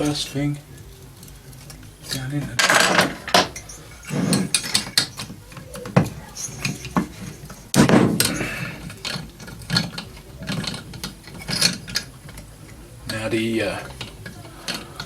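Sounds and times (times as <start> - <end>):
metal clatter: 0.0 - 15.0
metal tools clinking on engine parts: 0.0 - 15.0.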